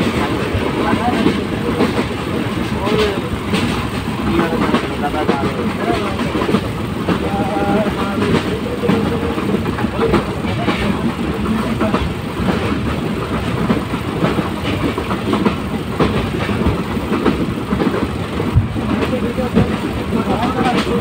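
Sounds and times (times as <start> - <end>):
train wheels rattling on rails: 0.0 - 21.0.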